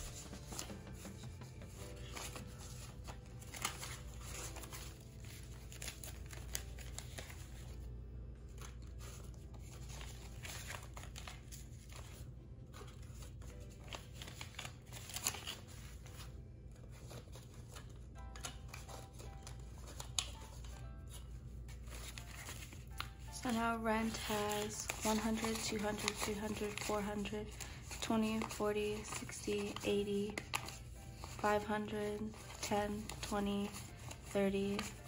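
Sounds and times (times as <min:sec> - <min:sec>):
paper money rustling: 0:00.0 - 0:35.0
soft background music: 0:00.0 - 0:35.0.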